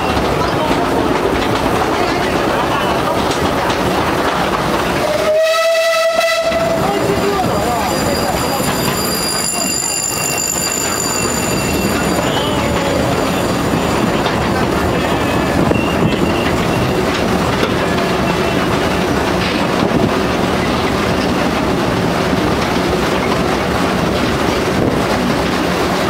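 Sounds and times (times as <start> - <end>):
train clacks: 0.0 - 26.0
train wheels rumbling on rail: 0.0 - 26.0.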